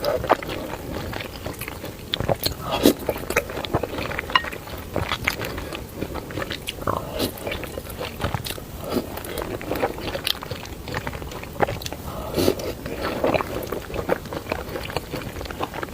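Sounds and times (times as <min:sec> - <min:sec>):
wet chewing and biting: 0:00.0 - 0:15.9.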